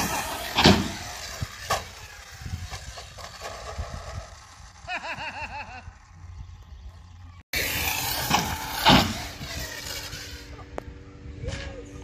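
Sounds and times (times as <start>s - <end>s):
electric motor revving: 0.0s - 10.8s.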